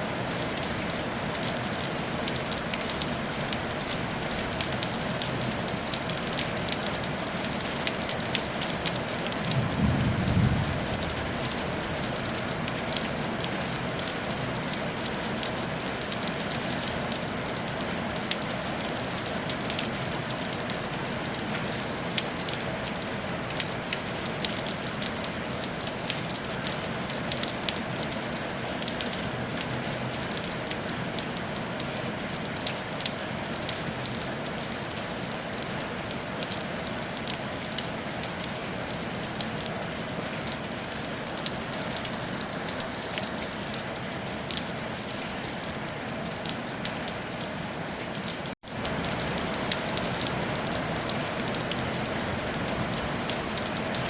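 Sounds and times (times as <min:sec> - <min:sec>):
rain on a tile roof: 0:00.0 - 0:54.0.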